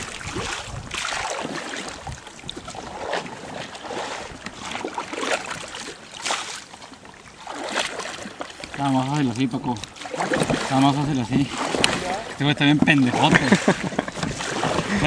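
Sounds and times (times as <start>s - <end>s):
oars splashing through water: 0.0s - 15.0s.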